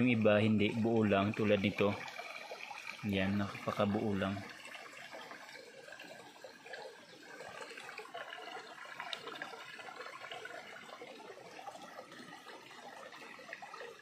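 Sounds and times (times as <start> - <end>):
stream trickling over rocks: 0.0 - 14.0.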